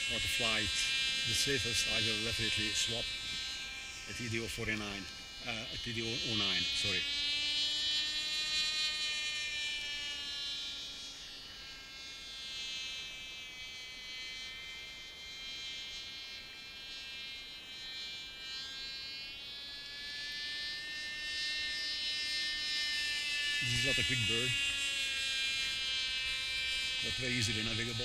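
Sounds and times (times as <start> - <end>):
model plane engine buzzing: 0.0 - 28.0.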